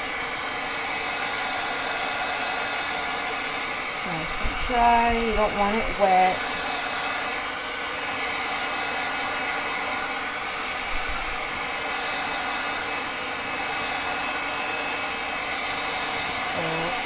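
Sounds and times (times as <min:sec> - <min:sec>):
heat tool fan blowing air: 0:00.0 - 0:17.0.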